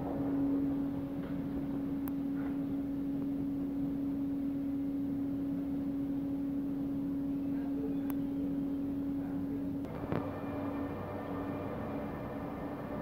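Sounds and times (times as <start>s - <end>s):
electric locomotive hum: 0.0s - 13.0s.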